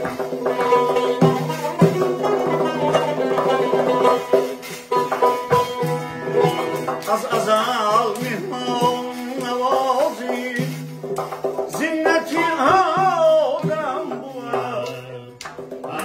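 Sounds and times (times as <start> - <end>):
person singing ornamented notes: 0.0 - 10.8, 11.7 - 16.0
plucked lute folk melody: 0.0 - 15.3.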